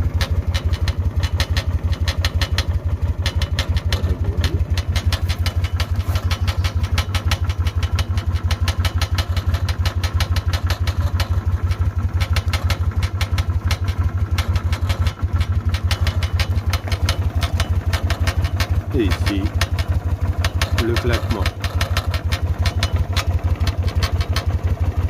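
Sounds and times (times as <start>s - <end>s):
car engine idling: 0.0s - 25.0s
rapid exhaust ticking: 0.0s - 25.0s.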